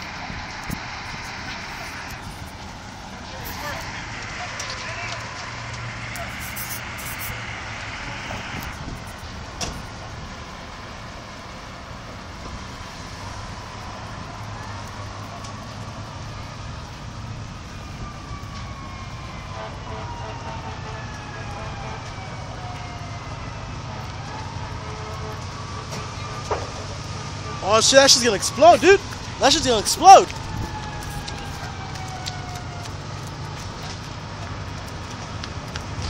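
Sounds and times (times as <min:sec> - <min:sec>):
distant siren wailing: 0:00.0 - 0:36.0.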